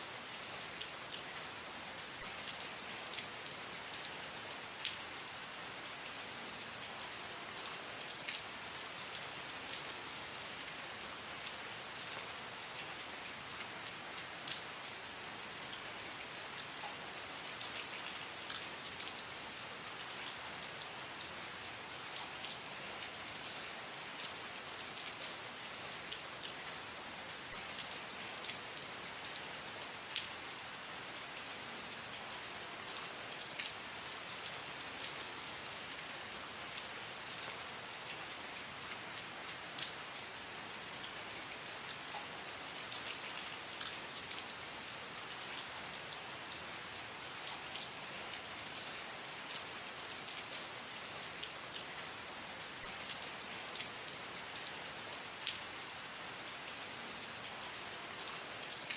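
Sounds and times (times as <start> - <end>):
steady rain hissing: 0.0 - 58.9
raindrops ticking on a surface: 0.3 - 58.9.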